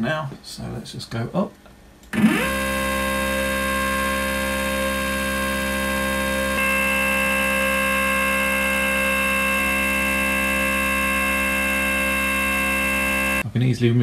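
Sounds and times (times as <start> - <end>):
stepper motor whine: 2.1 - 13.4.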